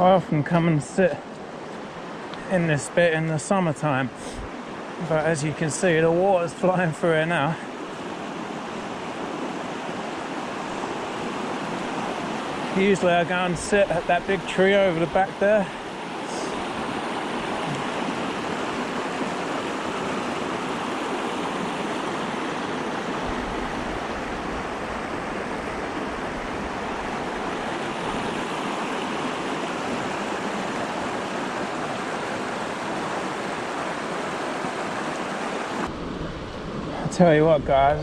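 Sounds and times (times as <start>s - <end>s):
river rushing: 0.0s - 38.0s.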